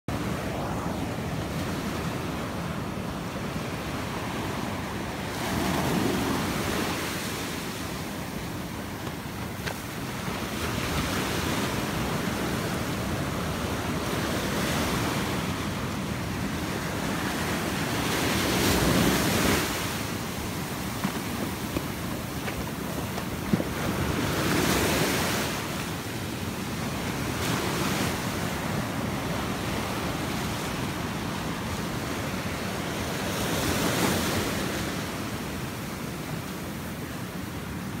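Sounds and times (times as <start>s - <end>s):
ocean surf breaking: 0.1s - 38.0s.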